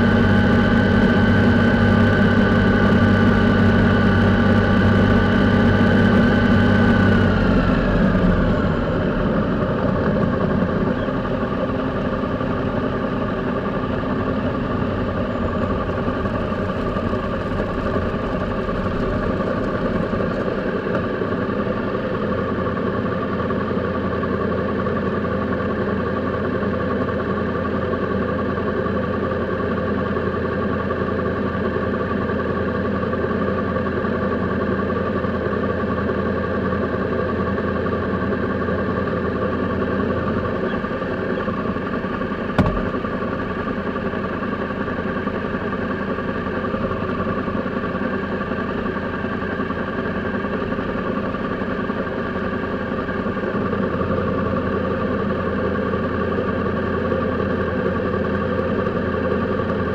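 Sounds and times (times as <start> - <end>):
motorcycle engine idling: 0.1 - 59.9.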